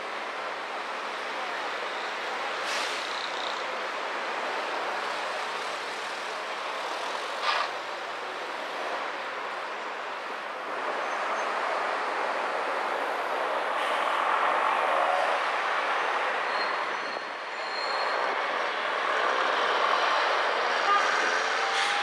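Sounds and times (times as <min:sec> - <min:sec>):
city traffic: 0:00.0 - 0:22.0.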